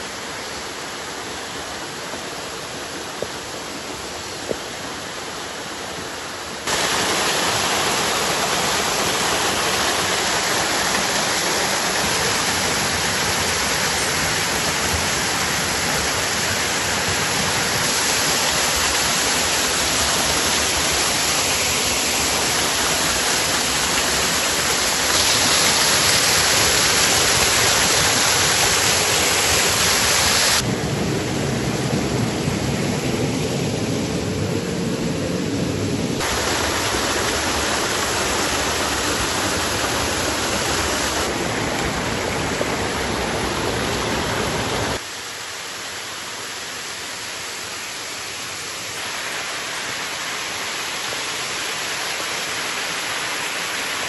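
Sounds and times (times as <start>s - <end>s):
waterfall and creek rushing: 0.0s - 31.4s, 32.0s - 54.0s.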